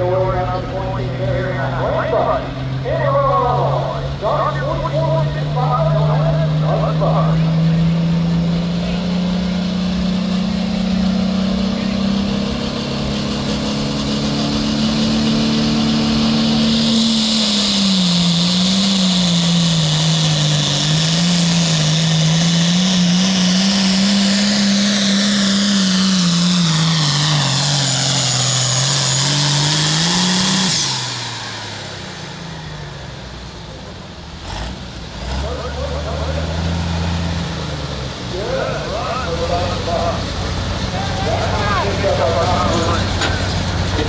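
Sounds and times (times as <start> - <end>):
diesel tractor engine revving: 0.0 - 44.0.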